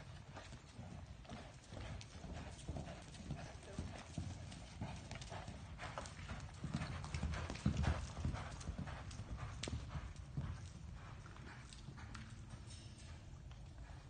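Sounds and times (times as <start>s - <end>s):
horse hooves clip-clopping: 0.0s - 14.0s.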